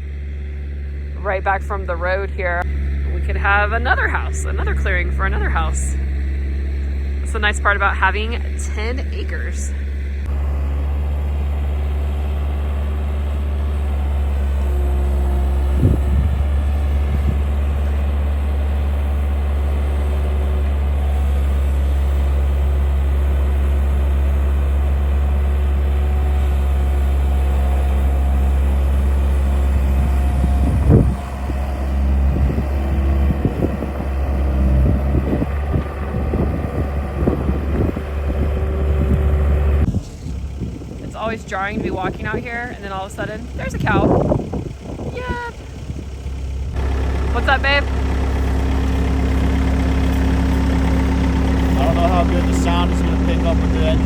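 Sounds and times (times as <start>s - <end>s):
skid steer engine humming: 0.0s - 54.0s.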